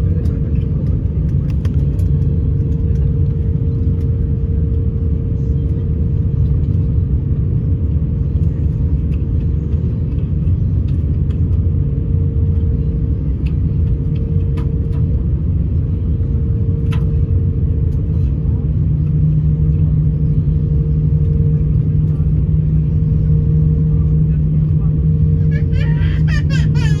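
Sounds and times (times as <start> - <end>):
aircraft cabin engine rumble: 0.0 - 27.0
constant hum: 0.0 - 27.0.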